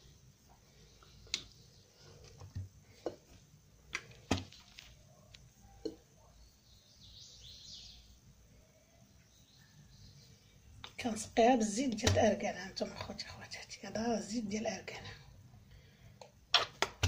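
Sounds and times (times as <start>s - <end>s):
soft hiss: 0.0s - 16.9s.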